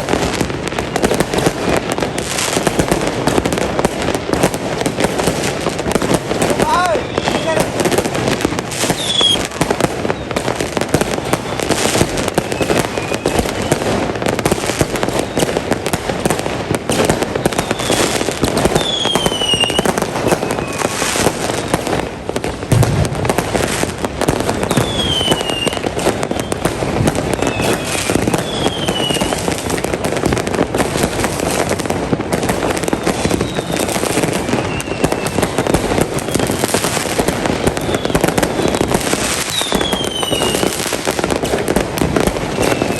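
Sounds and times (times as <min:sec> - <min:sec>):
fireworks bangs and crackling: 0:00.0 - 0:42.9
falling firework whistles: 0:06.0 - 0:15.8, 0:16.9 - 0:31.8, 0:32.4 - 0:42.9.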